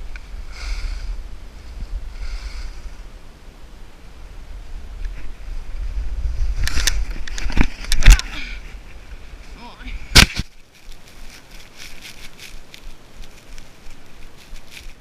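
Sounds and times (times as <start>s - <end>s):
rustling of snow and clothing: 0.0s - 15.0s.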